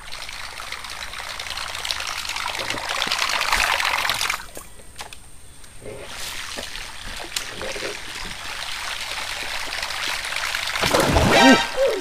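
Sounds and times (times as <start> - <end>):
water trickling and splashing: 0.0 - 5.1, 5.8 - 12.0.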